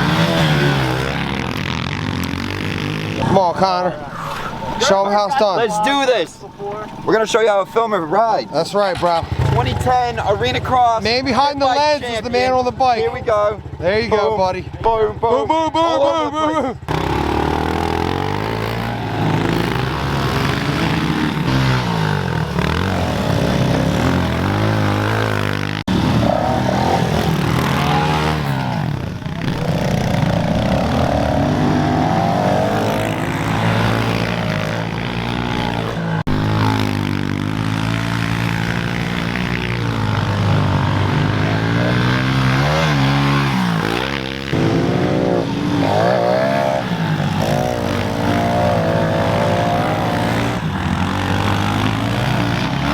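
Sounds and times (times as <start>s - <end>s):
pit bike engine revving: 0.0s - 14.8s, 15.6s - 52.9s.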